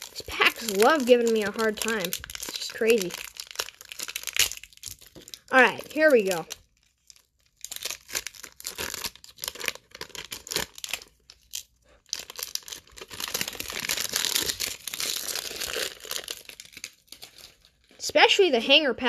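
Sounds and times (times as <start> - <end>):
card pack wrapper crinkling: 0.0 - 18.0.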